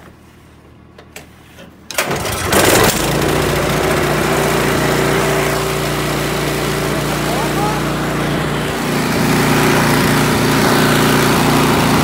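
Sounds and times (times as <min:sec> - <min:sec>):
snow blower engine starting: 0:01.9 - 0:12.0.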